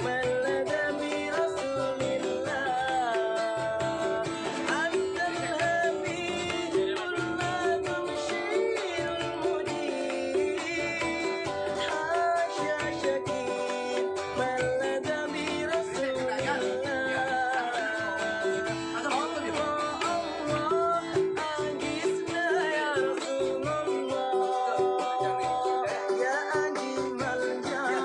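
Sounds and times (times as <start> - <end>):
person singing a wavering melody: 0.0 - 28.0
plucked strings: 0.0 - 28.0
steady beat: 0.0 - 28.0.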